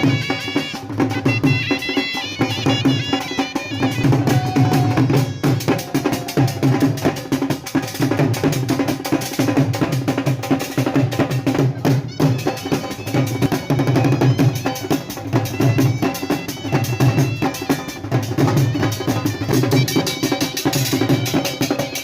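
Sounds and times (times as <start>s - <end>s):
drums beating fast rhythm: 0.0s - 22.0s.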